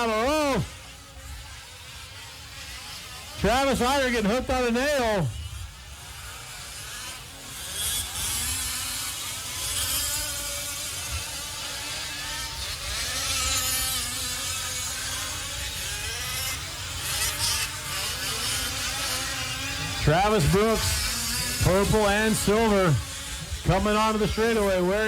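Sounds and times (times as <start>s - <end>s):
rc truck engines buzzing: 0.0s - 25.0s.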